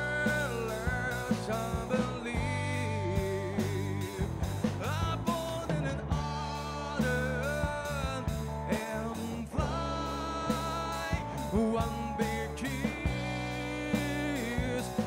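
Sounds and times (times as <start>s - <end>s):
drum kit: 0.0s - 15.0s
electric bass: 0.0s - 15.0s
electric guitar: 0.0s - 15.0s
male singer: 0.0s - 15.0s.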